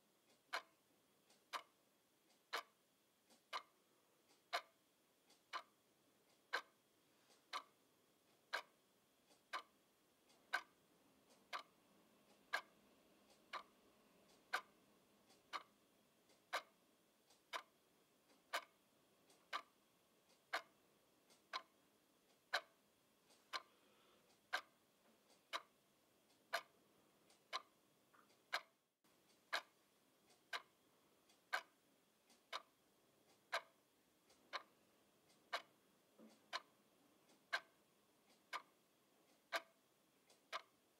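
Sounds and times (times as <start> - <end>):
alarm clock ticking: 0.0 - 40.9.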